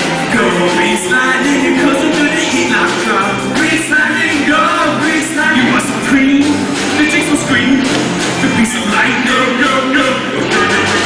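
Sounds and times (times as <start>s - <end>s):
backing music: 0.0s - 11.0s
voices singing rock and roll: 0.0s - 11.0s.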